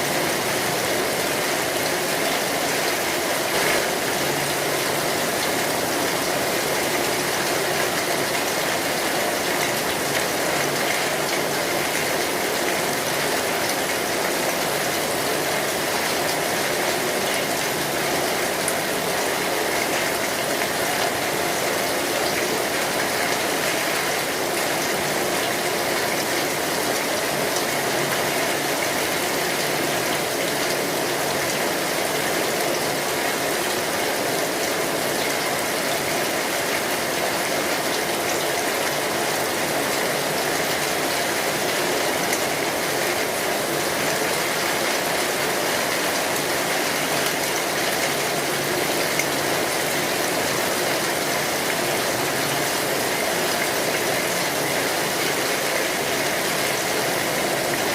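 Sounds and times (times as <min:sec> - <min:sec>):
rain on a metal roof: 0:00.0 - 0:57.9.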